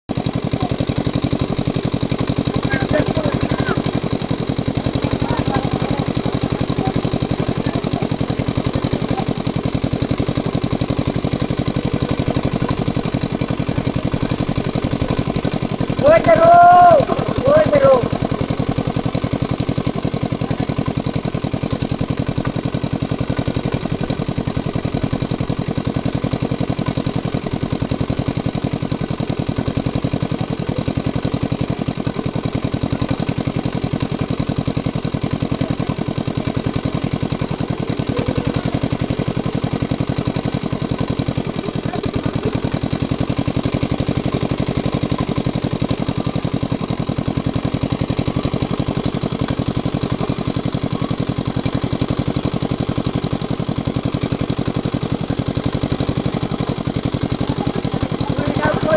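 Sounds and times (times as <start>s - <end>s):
engine running steadily: 0.1s - 58.9s.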